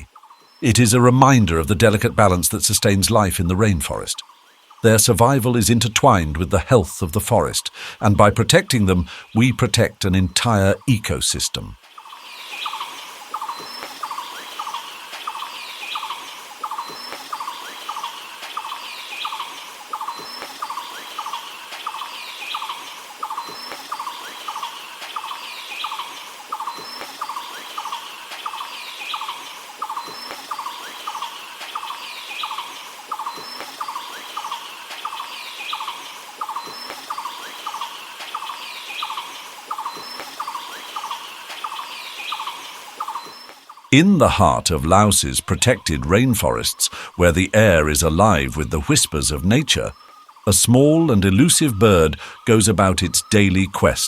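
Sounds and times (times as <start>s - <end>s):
birds chirping: 0.0s - 54.0s
steady background hiss: 0.0s - 54.0s.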